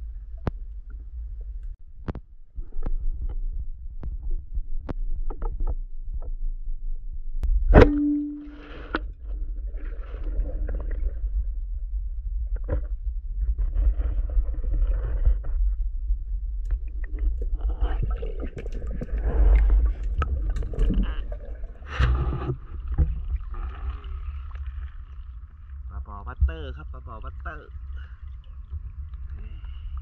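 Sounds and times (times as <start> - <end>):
muffled underwater rumble: 0.0 - 30.0.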